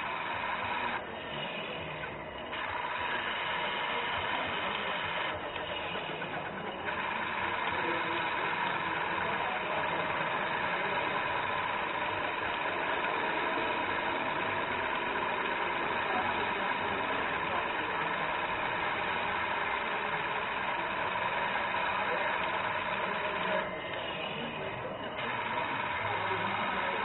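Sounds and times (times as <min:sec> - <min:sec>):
simulated diesel engine sound: 0:00.0 - 0:27.0
steady whine: 0:00.0 - 0:27.0.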